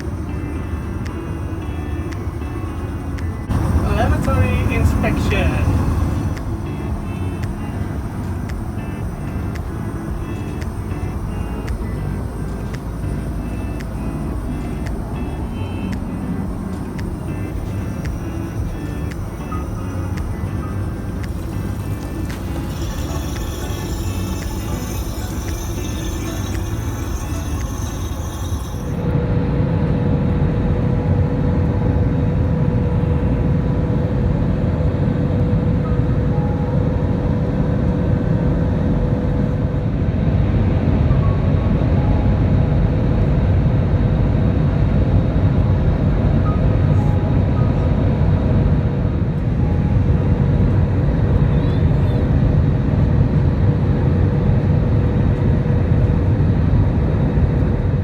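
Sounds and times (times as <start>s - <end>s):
aircraft engines and airflow rushing: 0.0s - 58.0s
faint constant hum: 0.0s - 58.0s.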